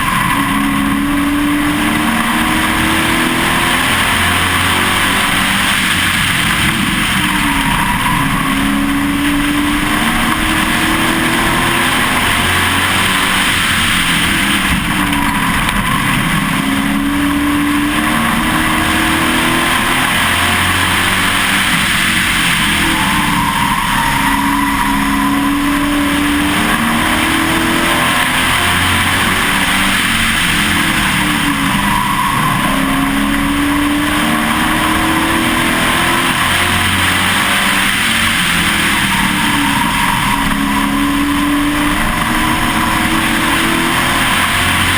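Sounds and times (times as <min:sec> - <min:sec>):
constant rushing noise: 0:00.0 - 0:44.9
race car engine revving: 0:00.0 - 0:44.9.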